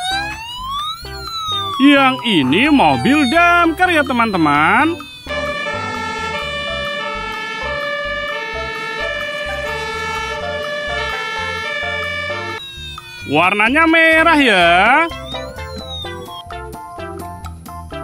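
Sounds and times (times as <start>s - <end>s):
fire engine siren: 0.0s - 16.4s
pulsing low throb: 0.0s - 16.4s.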